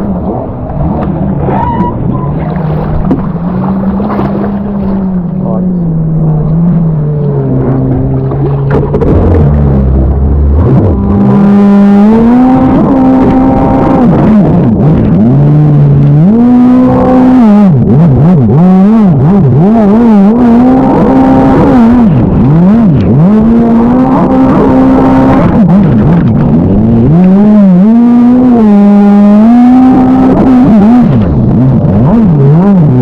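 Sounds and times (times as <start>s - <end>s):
jet ski engine revving: 0.0s - 33.0s.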